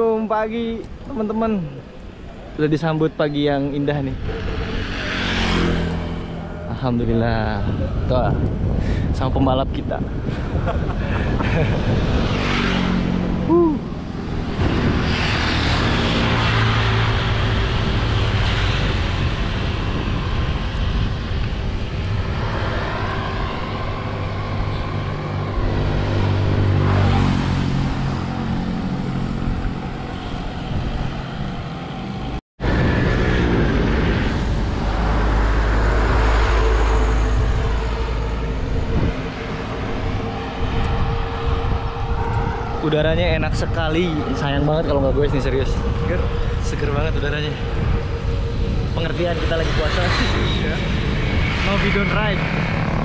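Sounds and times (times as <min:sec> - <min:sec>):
traffic: 0:00.0 - 0:53.0
wind rushing over microphone: 0:00.0 - 0:53.0
motor scooter engines passing: 0:00.9 - 0:08.8, 0:10.0 - 0:53.0.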